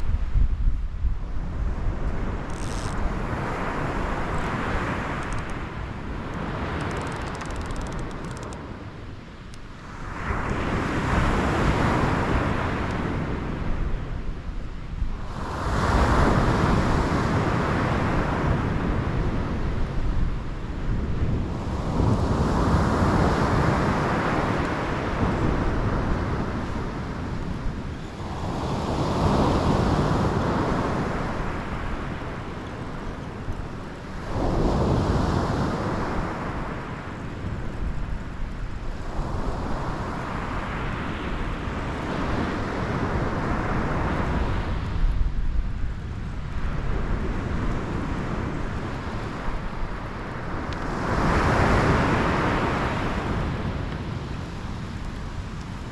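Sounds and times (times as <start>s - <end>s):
wind rumbling on microphone: 0.0s - 55.9s.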